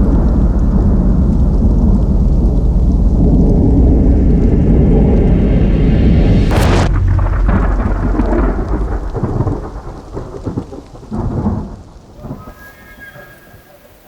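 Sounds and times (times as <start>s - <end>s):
deep rolling rumble with crack: 0.0s - 12.5s.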